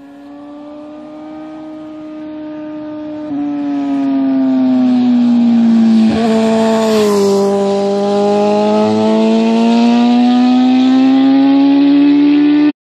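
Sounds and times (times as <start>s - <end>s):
motorcycle engine riding: 0.0s - 12.7s.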